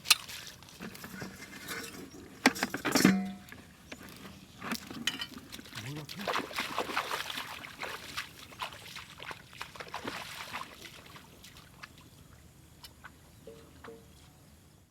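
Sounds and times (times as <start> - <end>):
water splashing and trickling: 0.0 - 2.4, 3.1 - 14.0.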